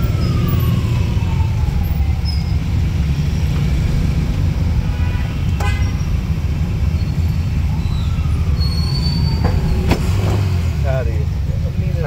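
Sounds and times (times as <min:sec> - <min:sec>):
vehicle road and wind rumble: 0:00.0 - 0:12.0.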